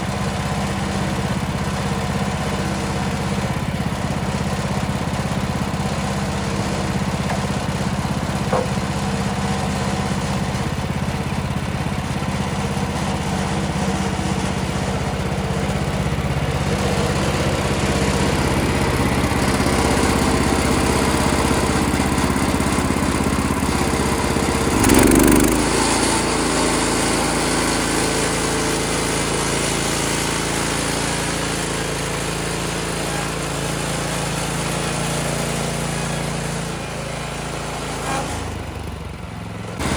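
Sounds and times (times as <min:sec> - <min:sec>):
sawmill gas engine running: 0:00.0 - 0:39.9.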